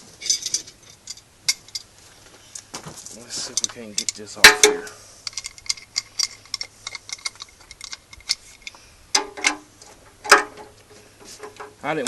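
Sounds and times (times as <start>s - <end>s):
metal clanks: 0.0s - 1.9s, 3.4s - 11.8s.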